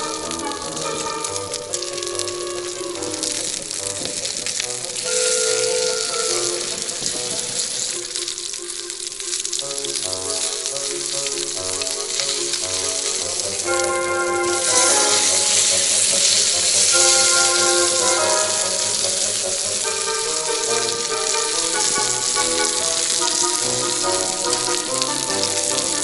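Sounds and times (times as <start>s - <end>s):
background music: 0.0s - 26.0s
meat sizzling: 0.0s - 26.0s.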